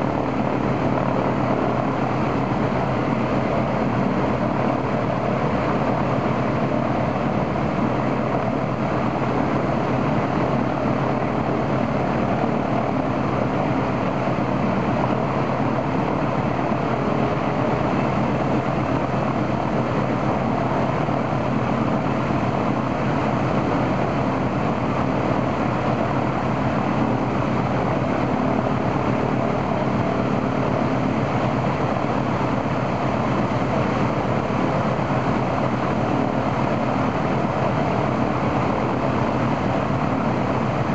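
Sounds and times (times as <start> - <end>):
radial aircraft engine running: 0.0 - 40.9.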